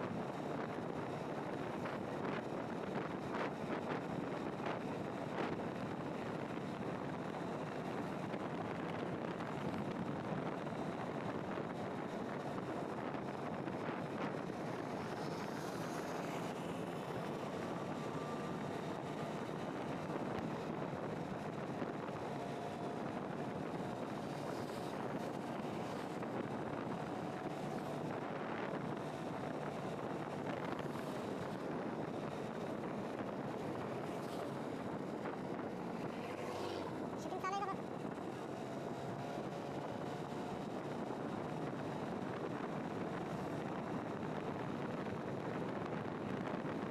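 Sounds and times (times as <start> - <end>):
vehicle road noise: 0.0 - 46.9
wind rushing over microphone: 0.0 - 46.9.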